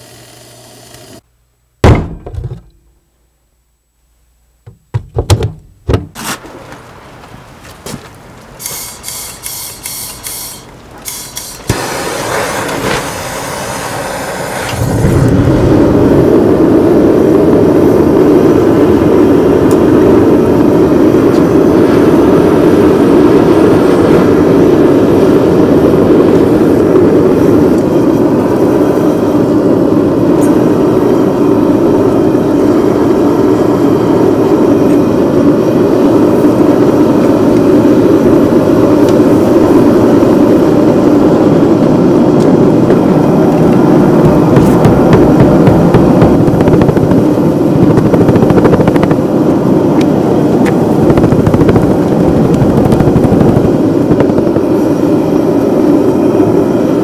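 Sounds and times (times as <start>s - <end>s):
gas forge burner roaring: 0.0s - 1.2s, 8.2s - 57.0s.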